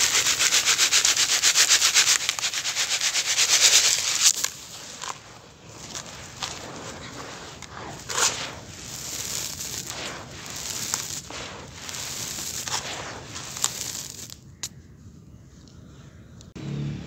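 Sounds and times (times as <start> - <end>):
pebbles clicking: 0.0 - 14.7
dirt crunching in hands: 0.0 - 14.8.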